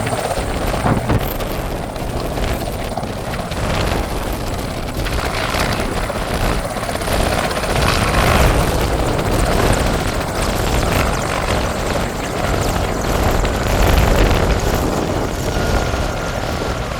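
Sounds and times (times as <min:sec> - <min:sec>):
helicopter rotor and engine: 0:00.0 - 0:16.9.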